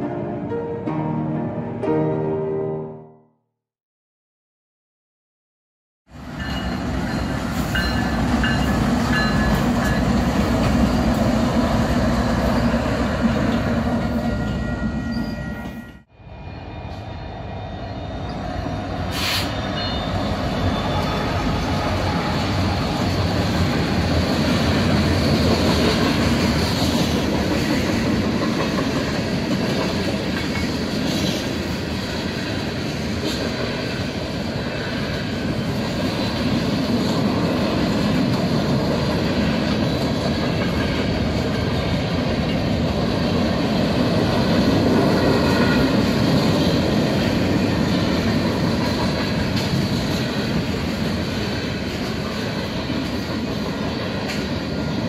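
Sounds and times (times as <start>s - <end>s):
steel wheels rumbling on rails: 6.1s - 55.0s.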